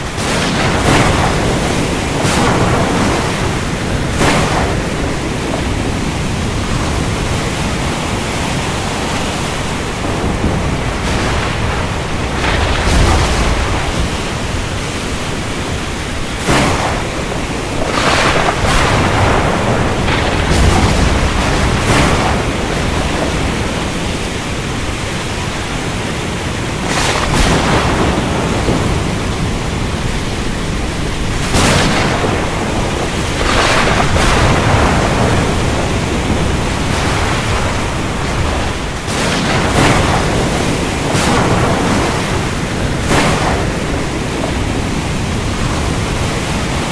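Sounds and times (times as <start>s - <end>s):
low thunder rumbles: 0.0s - 46.9s
rain and waves hissing: 0.0s - 46.9s
thunder cracks: 0.0s - 46.9s.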